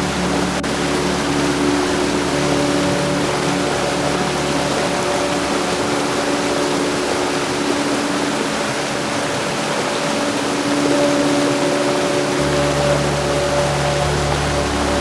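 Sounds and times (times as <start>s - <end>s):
faint sustained tones: 0.0s - 15.0s
heavy rain: 0.0s - 15.0s.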